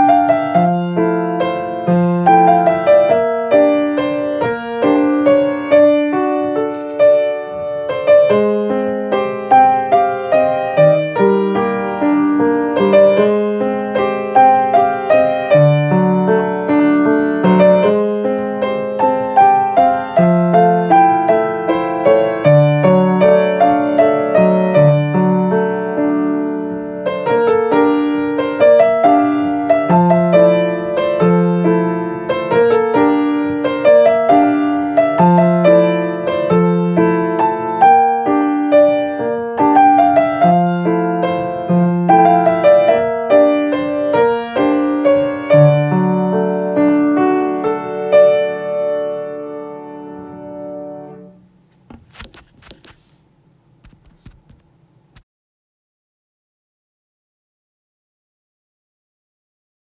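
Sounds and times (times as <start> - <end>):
solo piano: 0.0 - 52.0.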